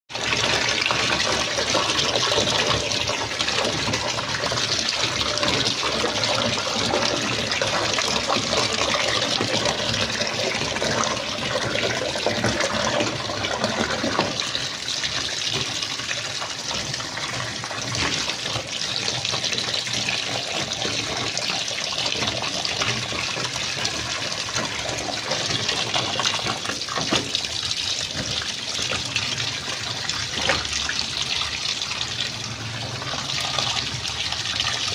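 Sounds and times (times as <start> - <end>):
water gushing from tap into tub: 0.1 - 34.9.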